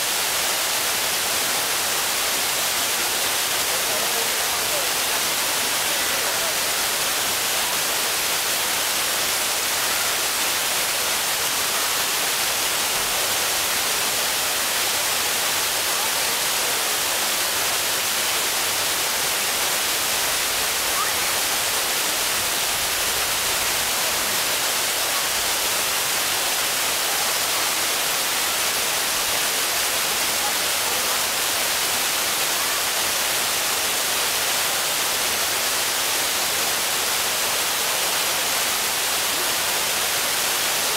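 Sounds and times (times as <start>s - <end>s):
waterfall hissing: 0.0s - 40.9s.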